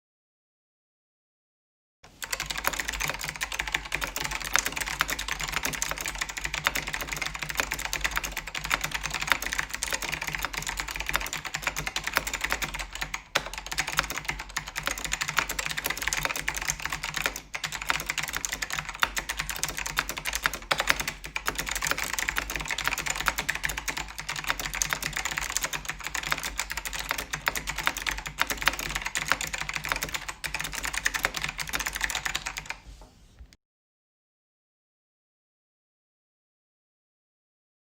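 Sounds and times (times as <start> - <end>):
fast keyboard typing: 2.1 - 32.8.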